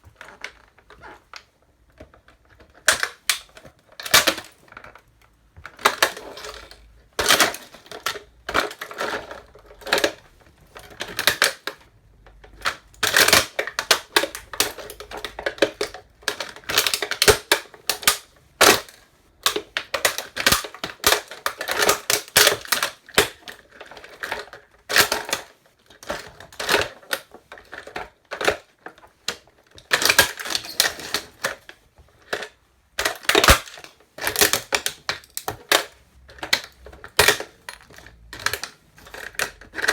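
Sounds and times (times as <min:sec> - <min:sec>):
toy truck cracking and snapping: 0:00.2 - 0:05.0, 0:05.7 - 0:39.9.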